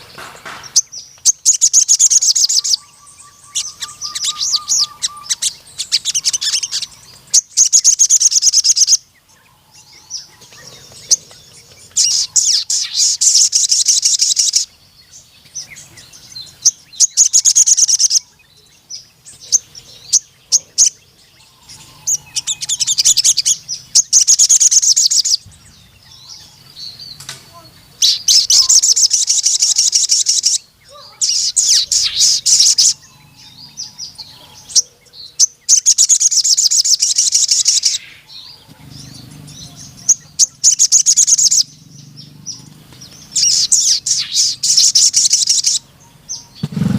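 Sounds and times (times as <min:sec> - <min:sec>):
bird chittering song: 0:00.0 - 0:46.9.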